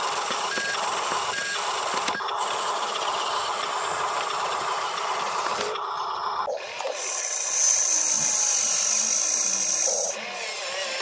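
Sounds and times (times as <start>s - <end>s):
toy truck motor whirring: 0.0s - 11.0s.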